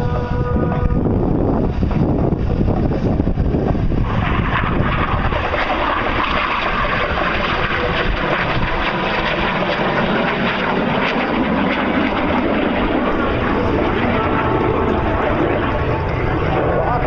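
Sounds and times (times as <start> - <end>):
jet engine rushing: 0.0 - 17.0.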